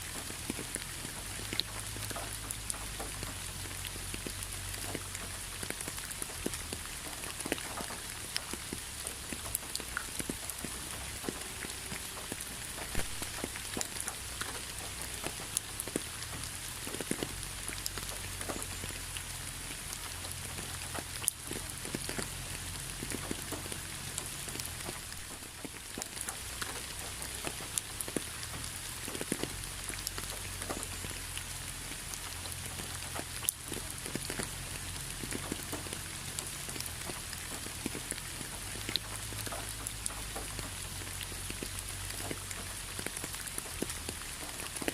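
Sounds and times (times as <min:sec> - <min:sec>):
raindrops tapping: 0:00.0 - 0:44.9
steady rain hiss: 0:00.0 - 0:44.9.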